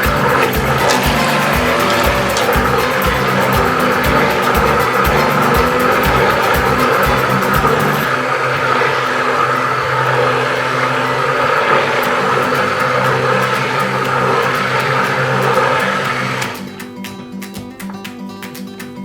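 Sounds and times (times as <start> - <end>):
stick blender running: 0.0 - 16.7
acoustic guitar music: 0.0 - 19.0.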